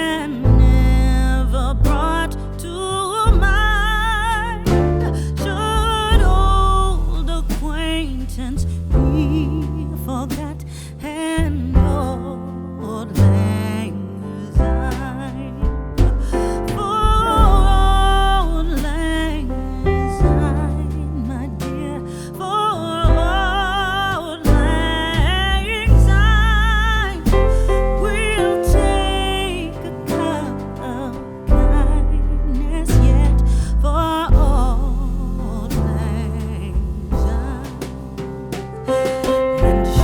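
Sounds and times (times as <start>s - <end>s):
person singing with vibrato: 0.0s - 38.0s
bass: 0.0s - 40.0s
piano: 0.0s - 40.0s.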